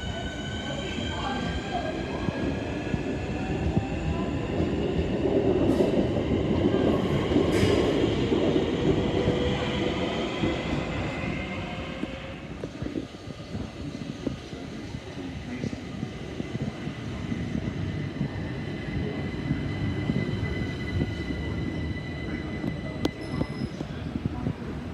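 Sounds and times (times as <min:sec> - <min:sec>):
train wheels rumbling on rails: 0:00.0 - 0:24.9.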